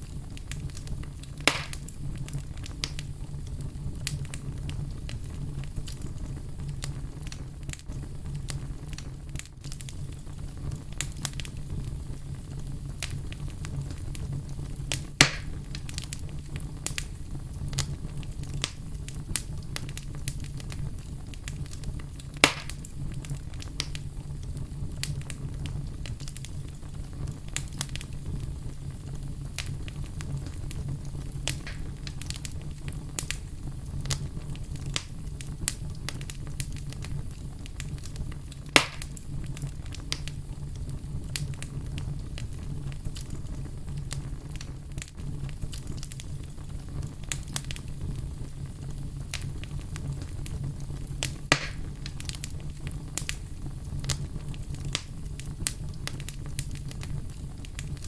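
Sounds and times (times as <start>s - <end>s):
loud fire pops: 0.0s - 58.0s
wood fire crackling: 0.0s - 58.0s.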